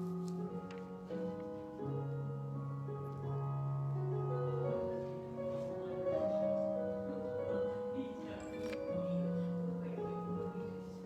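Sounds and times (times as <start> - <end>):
slow keyboard chords: 0.0 - 11.0.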